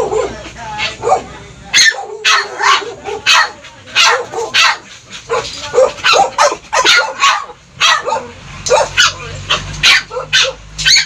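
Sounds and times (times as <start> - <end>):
small dog yapping: 1.8 - 11.0.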